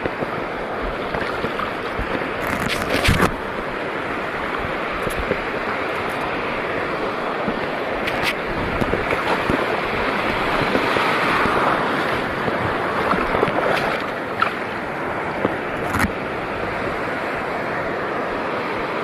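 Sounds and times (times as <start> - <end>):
seawater washing and lapping: 0.0 - 19.0.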